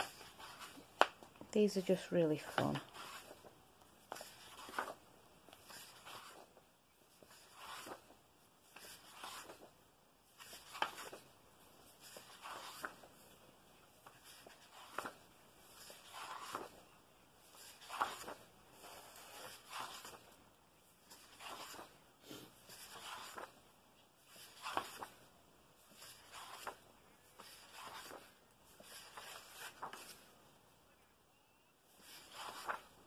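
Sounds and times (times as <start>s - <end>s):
paper pages turning: 0.0s - 30.5s, 31.9s - 33.0s.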